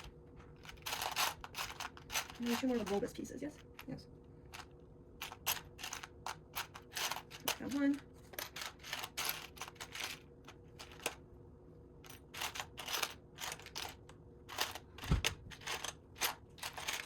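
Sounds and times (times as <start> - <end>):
plastic toy bricks clattering: 0.0 - 3.9, 4.5 - 10.2, 12.1 - 17.0.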